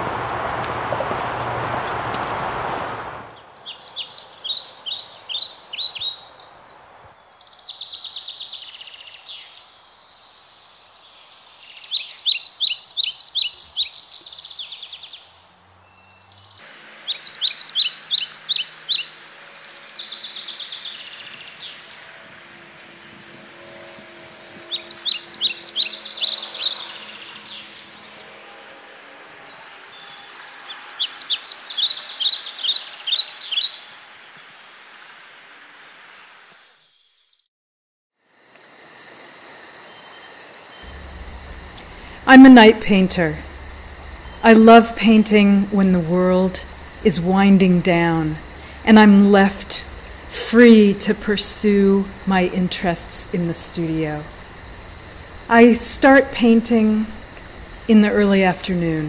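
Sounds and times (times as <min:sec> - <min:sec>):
songbird chirping: 0:00.0 - 0:37.5, 0:39.8 - 0:59.0.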